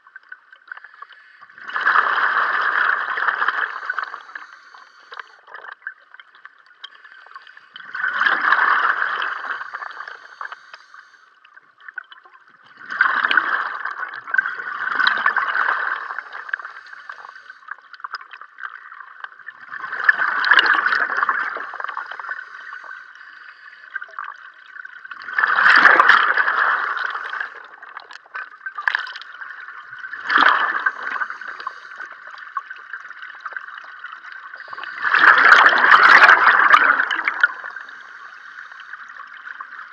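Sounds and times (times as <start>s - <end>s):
underwater bubbles from exhaled breath: 0.0s - 39.9s.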